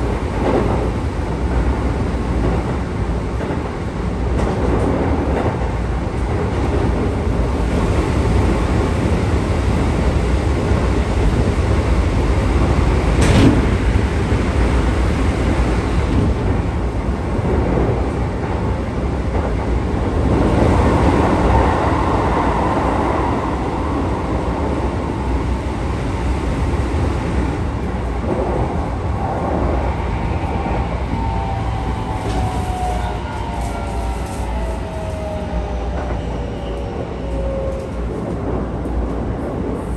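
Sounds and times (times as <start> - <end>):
train motors and wheels rumbling: 0.0 - 39.9.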